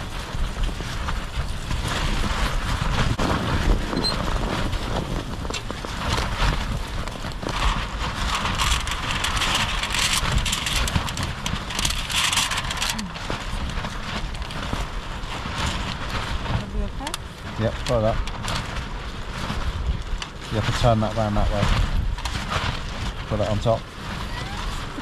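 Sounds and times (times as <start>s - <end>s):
tent flysheet flapping: 0.0s - 25.0s
wind rumbling: 0.0s - 25.0s.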